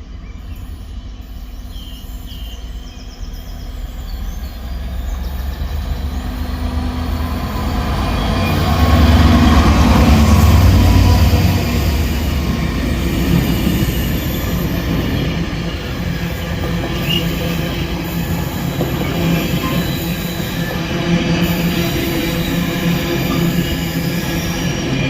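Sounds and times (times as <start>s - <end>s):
freight train wagons rolling past: 0.0s - 25.0s.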